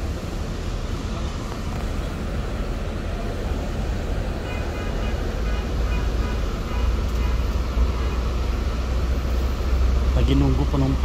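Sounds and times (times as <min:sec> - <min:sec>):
diesel coach engine idling: 0:00.0 - 0:11.0.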